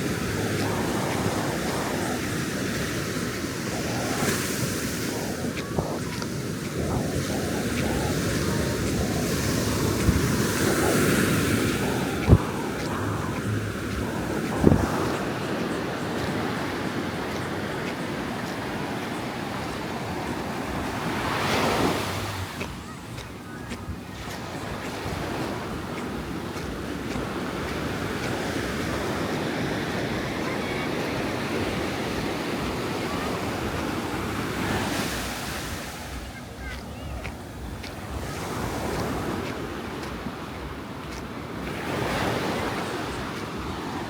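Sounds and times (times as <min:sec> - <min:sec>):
waves breaking on beach: 0:00.0 - 0:44.0
wind on microphone: 0:00.0 - 0:44.0.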